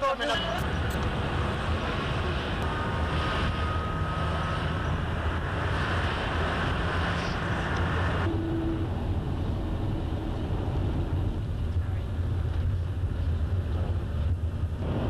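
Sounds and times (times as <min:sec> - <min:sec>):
coach engine and road rumble: 0:00.0 - 0:15.0.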